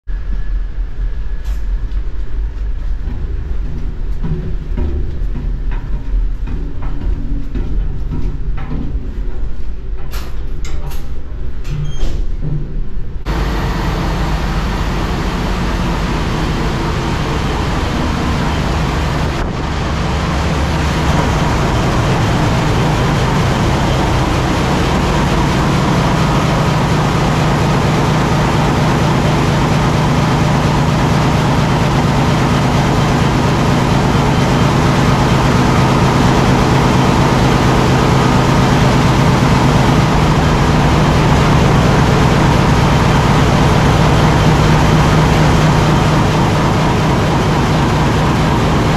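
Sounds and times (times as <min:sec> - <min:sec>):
diesel engine room din: 0:00.1 - 0:48.9.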